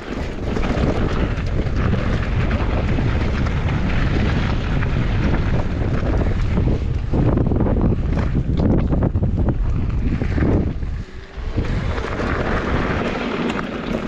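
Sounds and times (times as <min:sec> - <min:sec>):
bike rattles and clicks: 0:00.0 - 0:14.0
tyres rumbling on trail: 0:00.0 - 0:14.0
wind buffeting microphone: 0:00.0 - 0:14.0.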